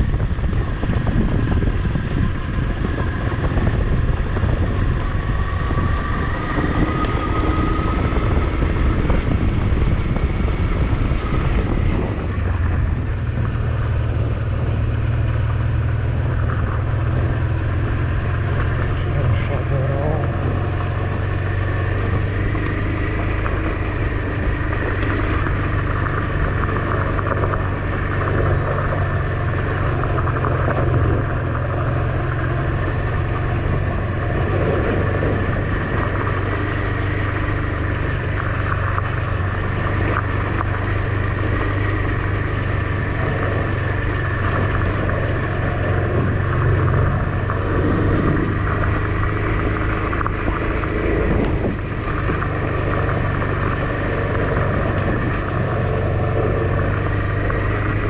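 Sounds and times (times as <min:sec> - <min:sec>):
motorcycle engine running: 0:00.0 - 0:58.0
steady rush of noise: 0:00.0 - 0:58.0.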